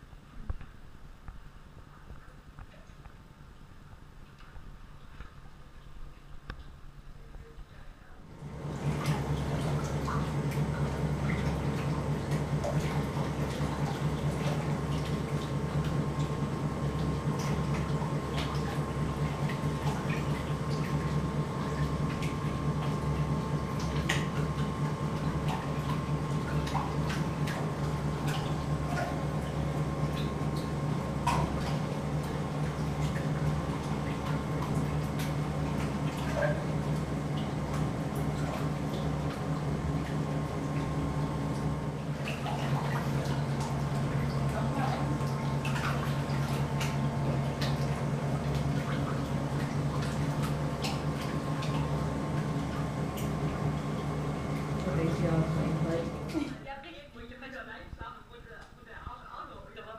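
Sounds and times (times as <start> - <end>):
water sloshing and splashing: 8.2 - 56.7
treadmill machine hum: 8.3 - 56.7.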